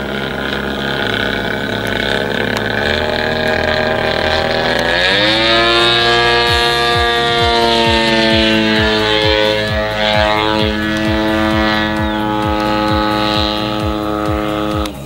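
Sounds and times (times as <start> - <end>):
model plane engine running: 0.0 - 15.0.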